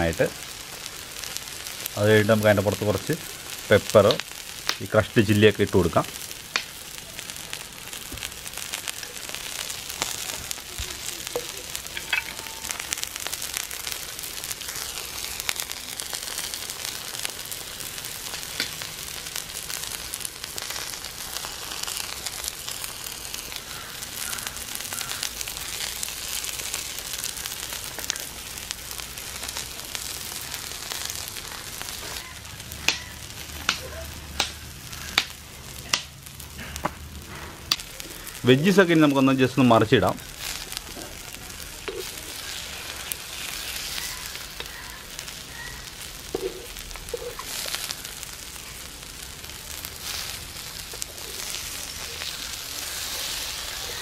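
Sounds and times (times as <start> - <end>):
oil sizzling on griddle: 0.0 - 54.0.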